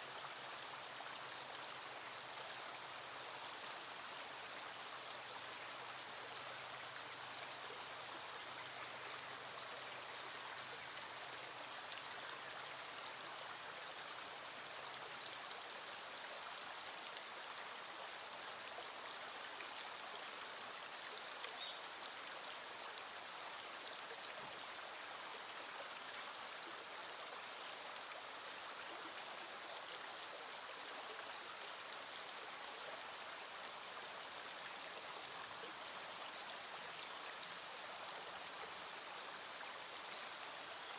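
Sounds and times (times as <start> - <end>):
small stream flowing: 0.0 - 40.9.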